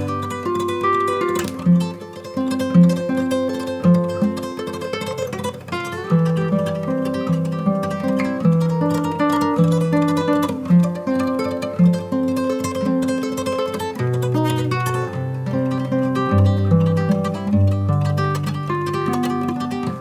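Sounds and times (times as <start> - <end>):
plucked acoustic guitar: 0.0 - 20.0.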